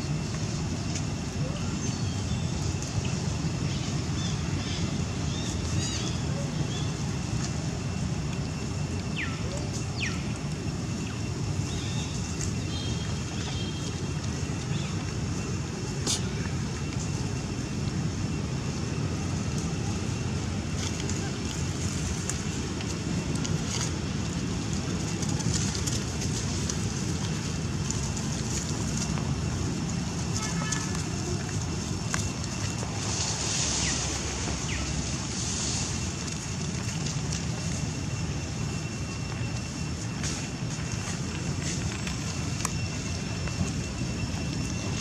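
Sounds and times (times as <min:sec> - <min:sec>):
low outdoor rumble: 0:00.0 - 0:45.0
faint scattered crackles: 0:04.8 - 0:45.0.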